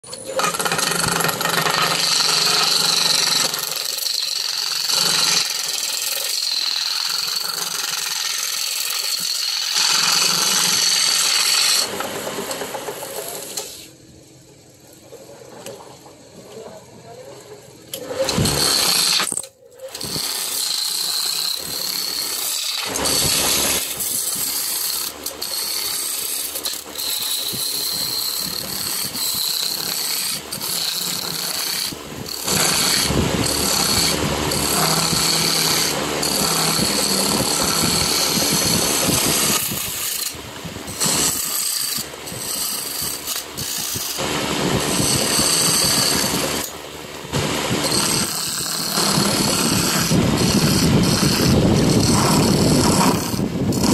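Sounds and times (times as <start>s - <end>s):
chisel cutting wood on lathe: 0.0s - 14.0s, 15.0s - 53.9s.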